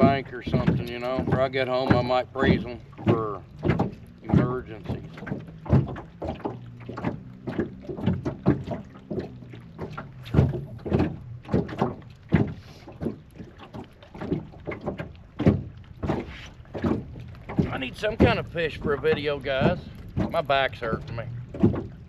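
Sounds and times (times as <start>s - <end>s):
waves slapping against boat hull: 0.0s - 22.0s.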